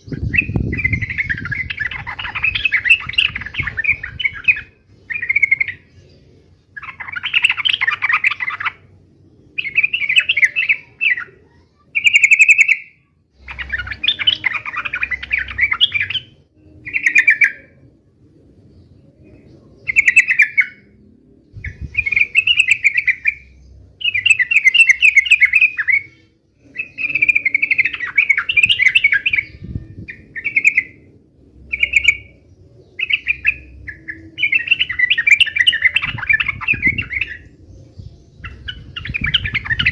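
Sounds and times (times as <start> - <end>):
bird chattering song: 0.0 - 17.9, 18.6 - 39.9.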